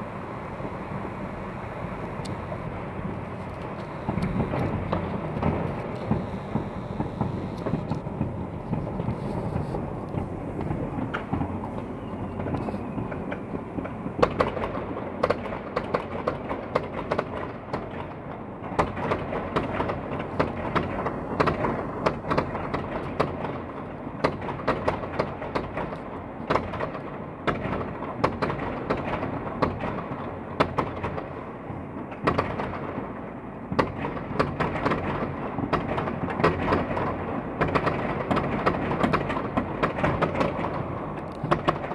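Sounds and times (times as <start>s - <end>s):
distant firework bursts: 0.0s - 41.9s
firecrackers crackling: 0.6s - 41.9s.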